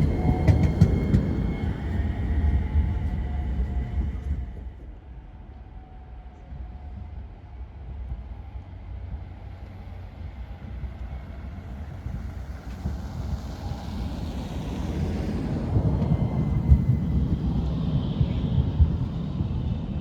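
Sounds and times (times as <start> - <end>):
tram rumble: 0.0 - 20.0.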